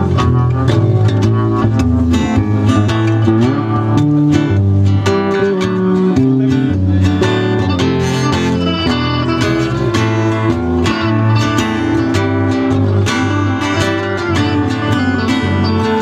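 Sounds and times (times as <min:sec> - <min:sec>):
electric bass: 0:00.0 - 0:16.0
electric guitar: 0:00.0 - 0:16.0
strummed acoustic guitar: 0:00.0 - 0:16.0.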